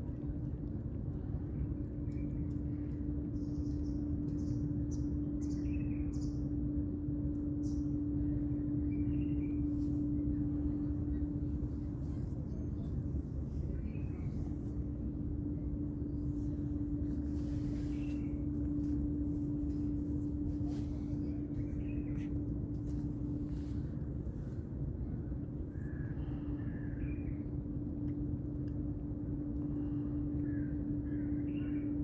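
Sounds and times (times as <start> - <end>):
constant hum: 0.0 - 32.0
low outdoor rumble: 0.0 - 32.0.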